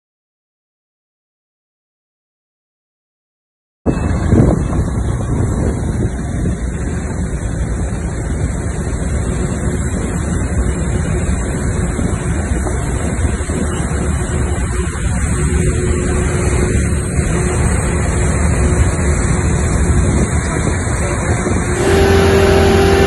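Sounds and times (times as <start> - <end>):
aircraft and machinery rumble: 3.9 - 23.0
wind noise on microphone: 3.9 - 23.0.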